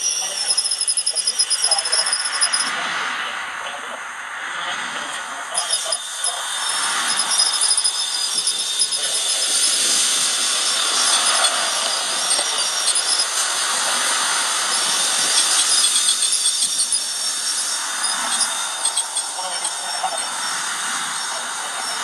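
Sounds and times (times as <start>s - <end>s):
winch squeaks and rattles: 0.0s - 2.7s, 5.6s - 20.6s
drill whirring: 0.0s - 2.8s, 5.6s - 22.0s.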